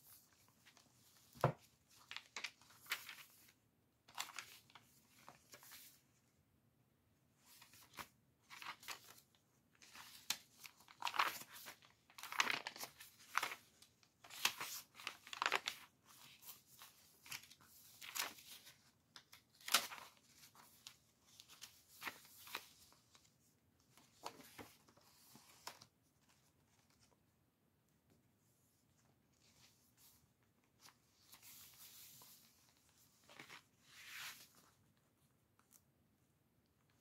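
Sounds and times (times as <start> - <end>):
paper pages turning: 0.0 - 6.0, 7.4 - 27.2, 29.0 - 35.8.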